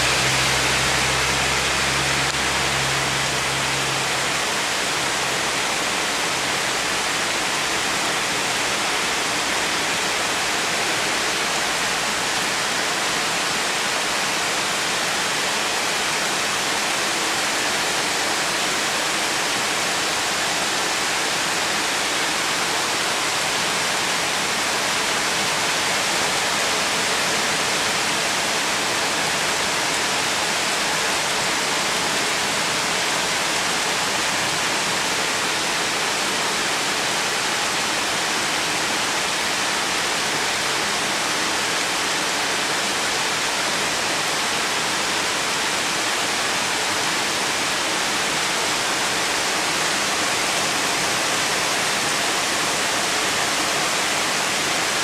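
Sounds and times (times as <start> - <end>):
heavy rain pouring: 0.0 - 55.0
runoff water flowing: 0.0 - 55.0.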